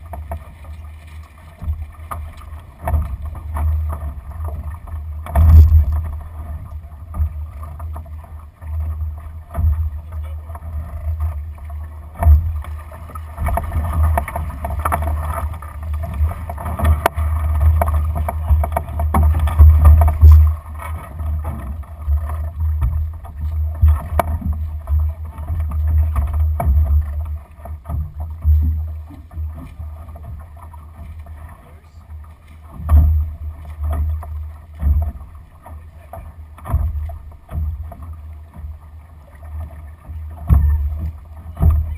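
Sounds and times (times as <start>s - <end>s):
knocks and clicks from rigging: 0.0s - 8.2s, 12.1s - 31.3s, 32.7s - 38.8s, 39.6s - 41.9s
water rushing along hull: 0.0s - 41.9s.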